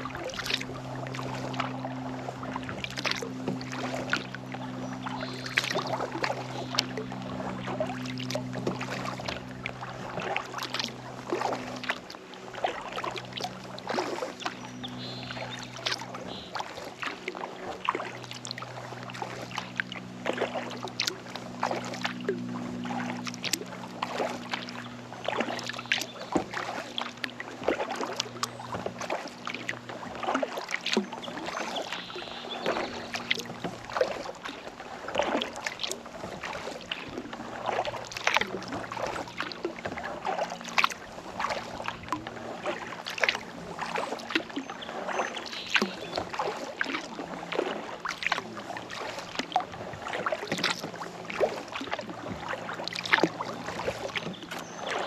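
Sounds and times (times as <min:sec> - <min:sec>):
paddle splashing through water: 0:00.0 - 0:55.0.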